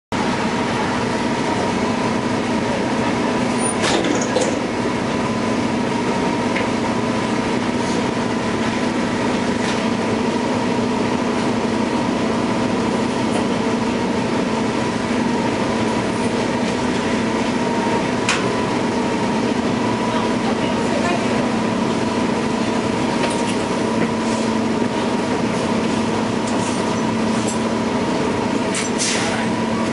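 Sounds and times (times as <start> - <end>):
bus engine drone with whine: 0.1 - 29.9.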